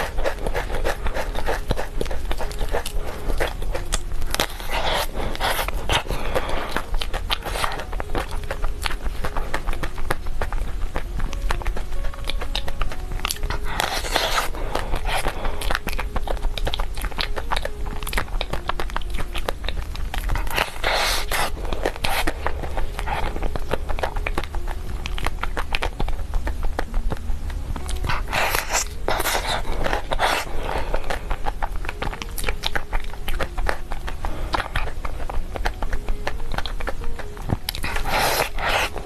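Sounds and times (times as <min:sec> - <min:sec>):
mouth clicks and chewing: 0:00.0 - 0:39.0
steady low hum: 0:00.0 - 0:39.0.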